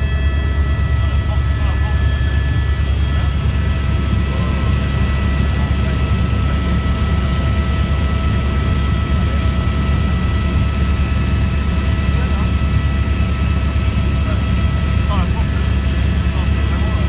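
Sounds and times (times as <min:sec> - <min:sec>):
helicopter rotor and engine rumble: 0:00.0 - 0:17.0
high whine: 0:00.0 - 0:17.0.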